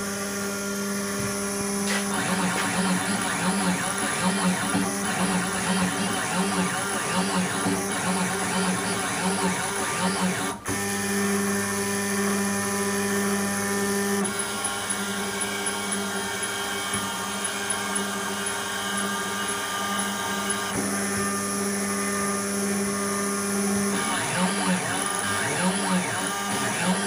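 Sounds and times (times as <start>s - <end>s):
router spindle motor whining: 0.0s - 27.0s.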